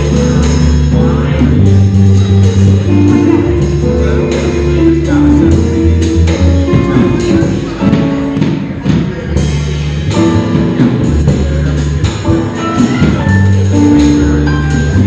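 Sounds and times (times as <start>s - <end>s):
double bass notes: 0.0s - 15.0s
live jazz trio music: 0.0s - 15.0s.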